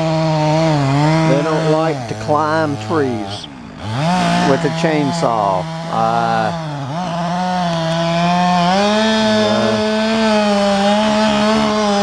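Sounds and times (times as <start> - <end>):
chainsaw cutting into tree trunk: 0.0 - 12.0.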